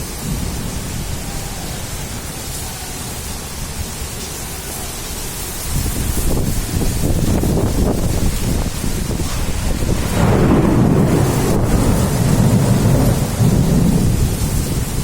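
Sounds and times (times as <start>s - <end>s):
thunder rumble: 0.0s - 4.2s, 5.2s - 15.0s
steady rain: 0.0s - 15.0s.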